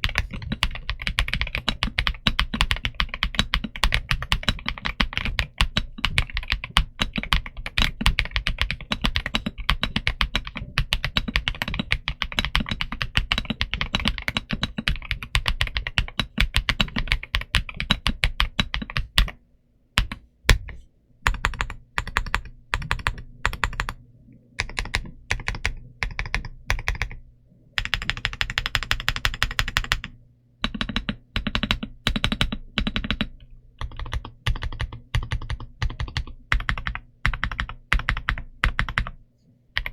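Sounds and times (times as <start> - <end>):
mechanical keyboard typing: 0.0 - 19.4, 20.0 - 24.0, 24.6 - 27.2, 27.8 - 39.2.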